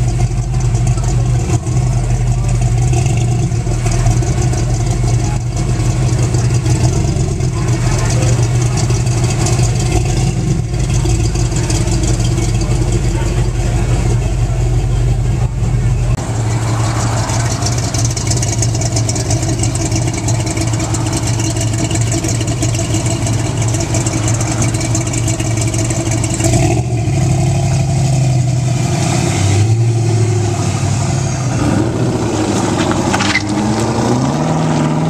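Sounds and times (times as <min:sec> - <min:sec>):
truck engine idling and revving: 0:00.0 - 0:35.0.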